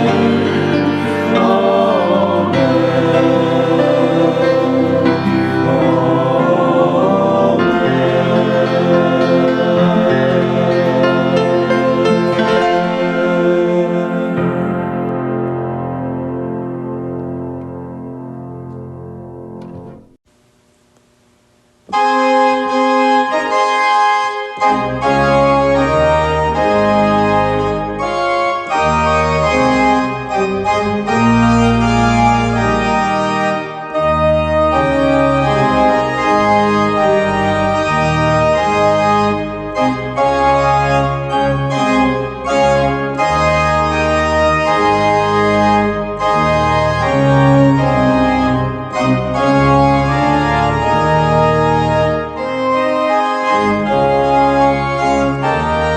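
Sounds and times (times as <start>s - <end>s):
deep organ bass notes: 0.0s - 20.2s, 21.2s - 55.9s
organ chords: 0.0s - 55.9s.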